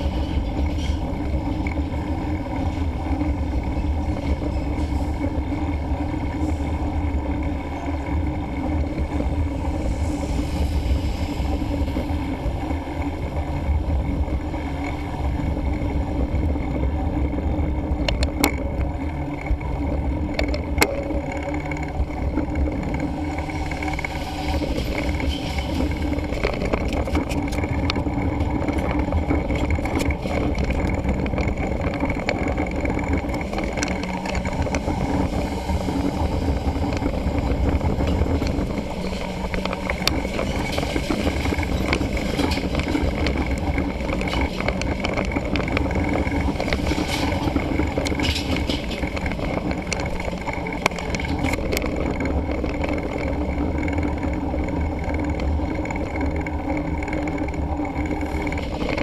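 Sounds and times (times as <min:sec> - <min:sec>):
bike clicks and rattles: 0:00.0 - 0:59.0
tyre road rumble: 0:00.0 - 0:59.0
wind on microphone: 0:00.0 - 0:59.0.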